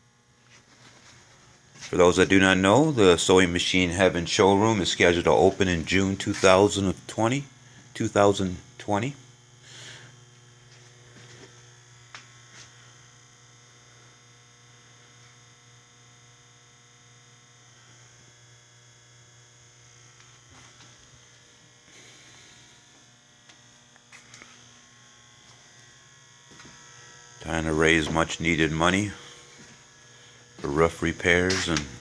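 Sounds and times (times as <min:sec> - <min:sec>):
faint electrical hum: 0:00.0 - 0:32.0.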